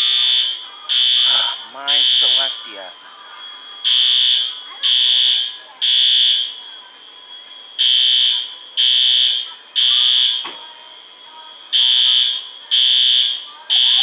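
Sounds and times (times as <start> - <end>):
fire alarm beeps: 0.0 - 2.7, 3.5 - 10.5, 11.7 - 14.0.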